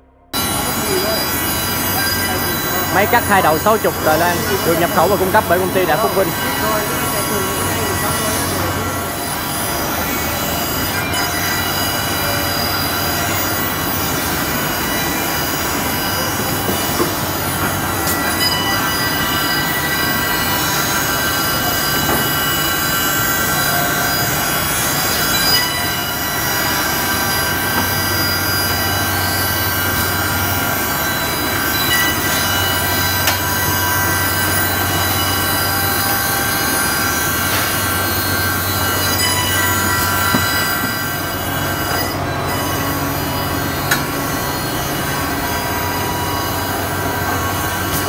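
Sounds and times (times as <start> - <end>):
milling machine high whining: 0.4 - 48.0.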